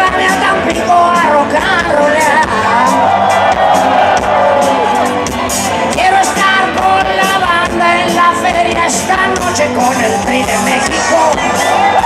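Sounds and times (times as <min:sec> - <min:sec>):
live rock band playing: 0:00.0 - 0:12.0
person singing: 0:00.0 - 0:12.0.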